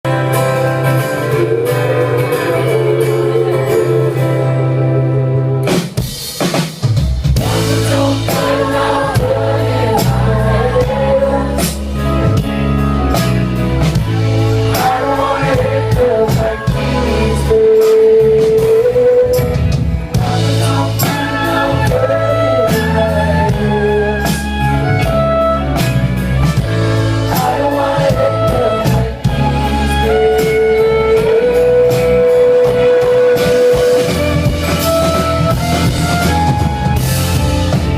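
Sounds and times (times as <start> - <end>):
guitar: 0.0 - 37.9
person singing: 0.3 - 5.6, 7.4 - 12.4, 14.0 - 25.1, 27.2 - 36.6
drums steady beat: 5.6 - 37.9
low bass: 7.2 - 37.9.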